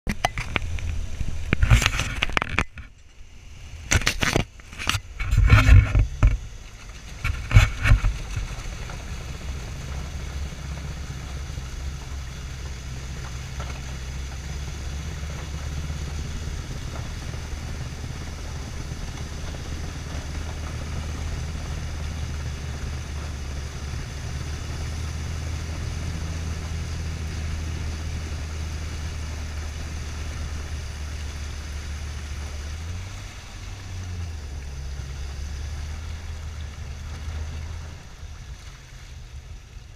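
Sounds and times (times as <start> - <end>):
steady low hum: 0.1 - 39.9
vehicle engine running: 0.1 - 39.9
rushing water bursts: 5.1 - 39.9.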